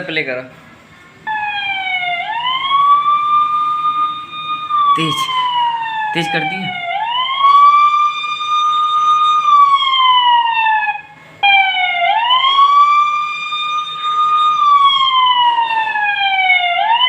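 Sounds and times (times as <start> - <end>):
police siren wailing: 1.3 - 17.0.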